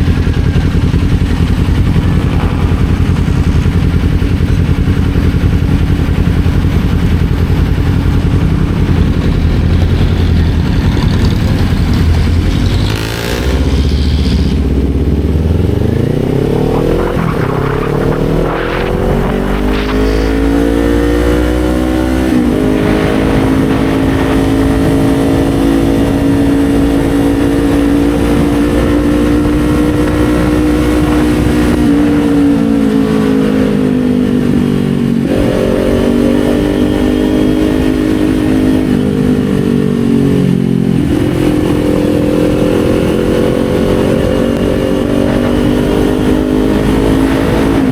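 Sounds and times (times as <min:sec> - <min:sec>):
wind rush: 0:00.0 - 0:37.6, 0:38.4 - 0:47.9
motorcycle engine: 0:00.0 - 0:47.9.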